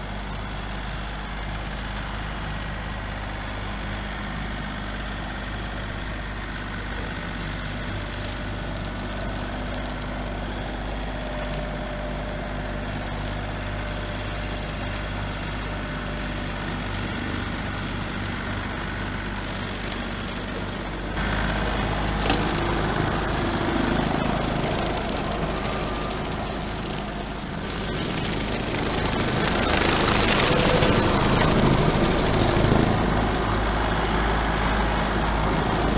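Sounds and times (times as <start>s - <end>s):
small tractor engine running: 0.0s - 35.9s.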